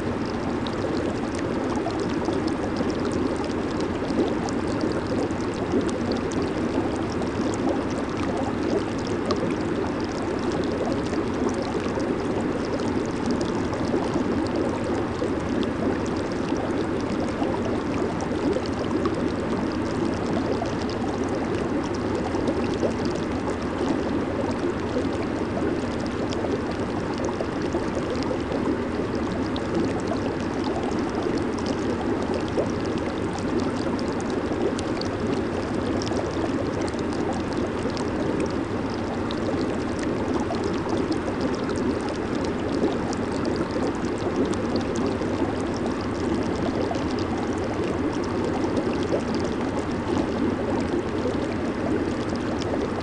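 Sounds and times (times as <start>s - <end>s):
jacuzzi water churning: 0.0s - 53.0s.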